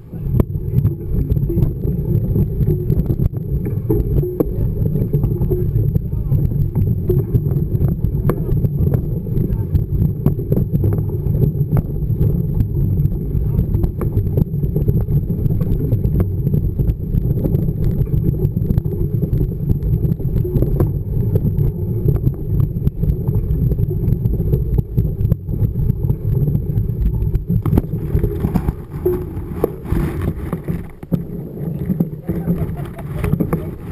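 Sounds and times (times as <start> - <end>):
bike rumbling over gravel: 0.0 - 33.9.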